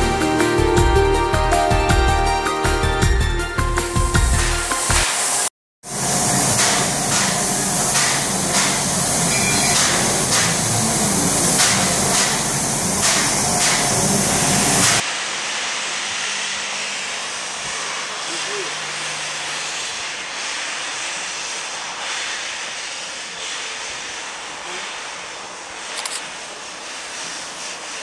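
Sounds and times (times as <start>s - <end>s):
loud steam hiss: 0.0s - 2.8s, 3.9s - 28.0s
steam locomotive chuffing: 4.2s - 28.0s.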